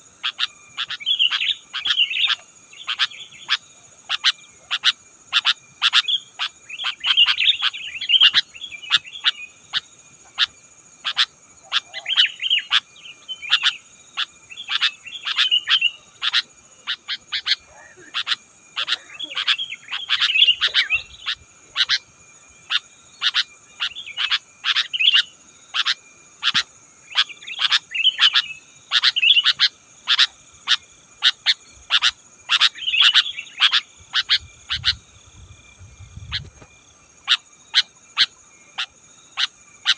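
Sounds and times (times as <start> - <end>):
bulbuls chirping: 0.0 - 39.9
high insect drone: 0.0 - 39.9
sharp clicking calls: 0.2 - 22.1, 22.7 - 35.0, 36.2 - 39.9.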